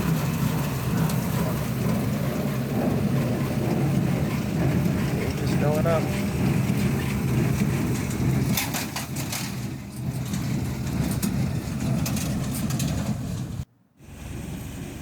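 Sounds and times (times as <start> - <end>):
baler clicks and clatter: 0.0 - 13.7
tractor and baler running: 0.0 - 15.0.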